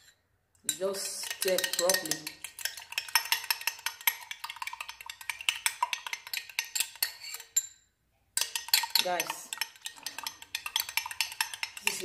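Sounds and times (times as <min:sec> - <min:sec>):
teaspoon clinking against glass: 0:00.7 - 0:07.8, 0:08.4 - 0:12.0.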